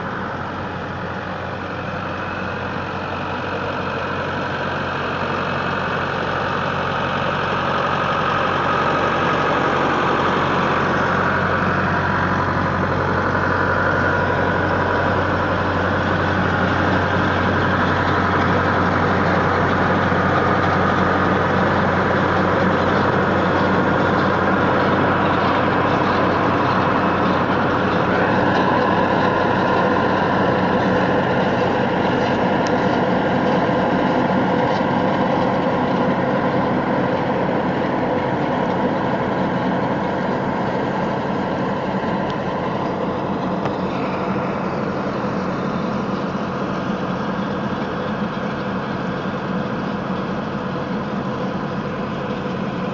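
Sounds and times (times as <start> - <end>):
high whine: 0.0 - 52.9
tractor and machine rumbling: 0.0 - 52.9.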